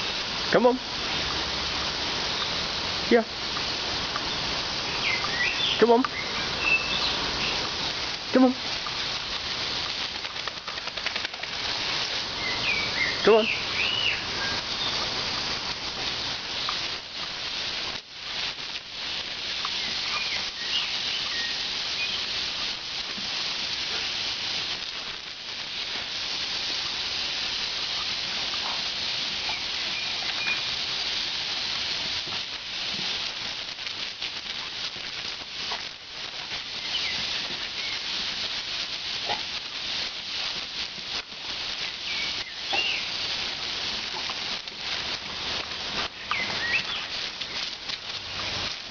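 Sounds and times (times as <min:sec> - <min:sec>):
garden hose spraying water: 0:00.0 - 0:48.9
water patter and splashes: 0:00.0 - 0:48.9.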